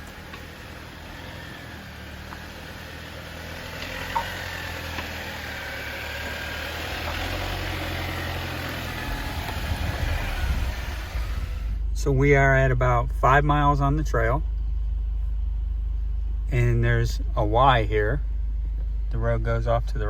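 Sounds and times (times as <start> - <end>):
off-road engine running: 0.0 - 20.0.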